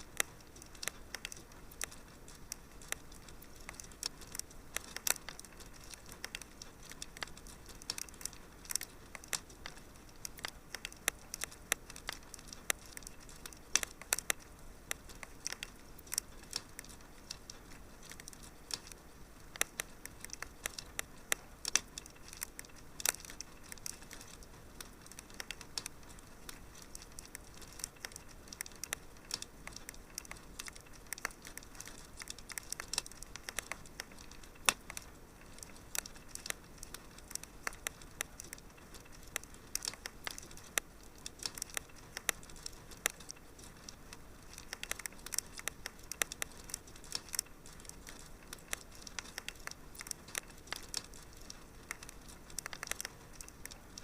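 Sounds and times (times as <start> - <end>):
soft steady hiss: 0.0 - 54.0
wood fire crackling: 0.0 - 54.0.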